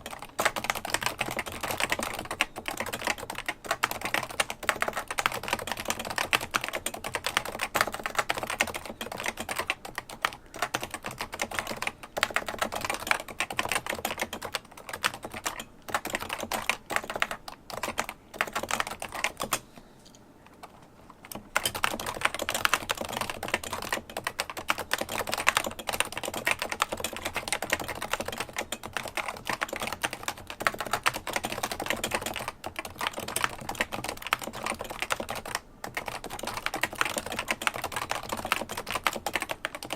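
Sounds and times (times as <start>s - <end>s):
fast keyboard typing: 0.0s - 19.6s, 20.6s - 39.9s.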